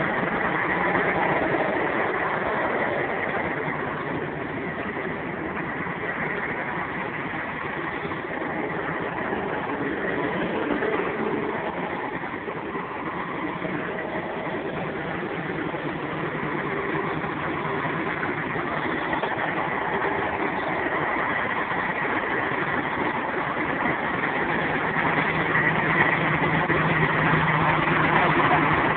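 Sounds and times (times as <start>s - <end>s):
truck diesel engine idling: 0.0s - 28.9s.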